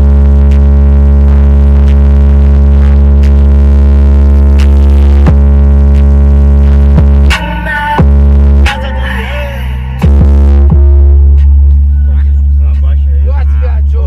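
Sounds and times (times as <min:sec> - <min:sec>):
deep bass tone from subwoofers: 0:00.0 - 0:14.0
falling bass sweep: 0:00.0 - 0:14.0.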